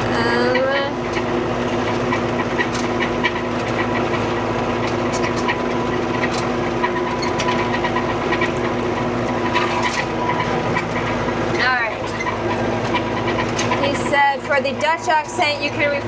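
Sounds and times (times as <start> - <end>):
sharp clicks and rattles: 0.0 - 16.0
tractor engine running under load: 0.0 - 16.0.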